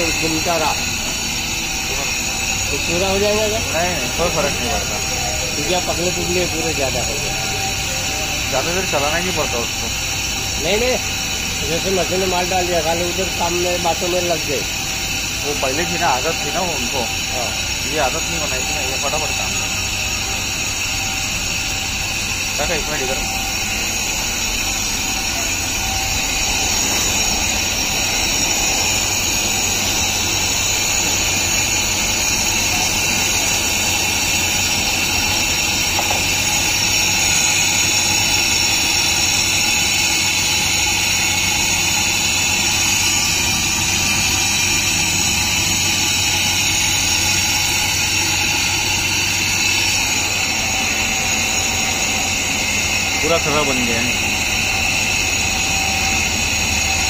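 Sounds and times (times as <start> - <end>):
mixing machine whirring: 0.0 - 57.0.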